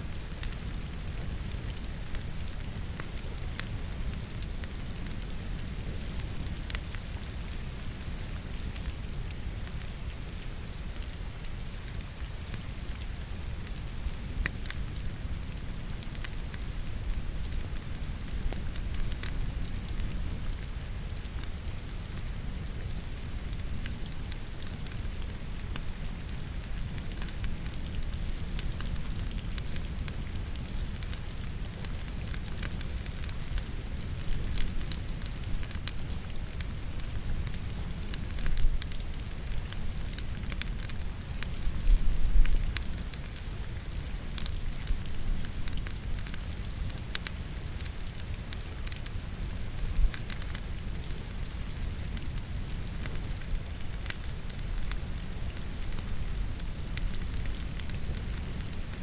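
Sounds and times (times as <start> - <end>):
falling rain hiss: 0.0 - 59.0
logs crackling and popping in fire: 0.0 - 59.0.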